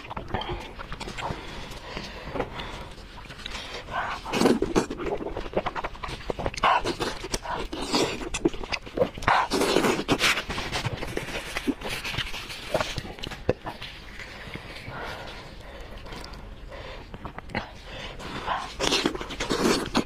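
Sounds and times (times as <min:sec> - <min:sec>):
chewing with wet mouth clicks: 0:00.0 - 0:02.4, 0:03.0 - 0:20.0.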